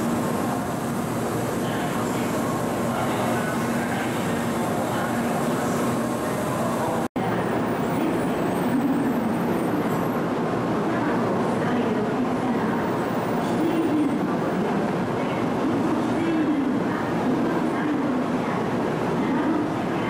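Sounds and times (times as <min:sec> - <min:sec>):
train platform hum and rush: 0:00.0 - 0:20.0.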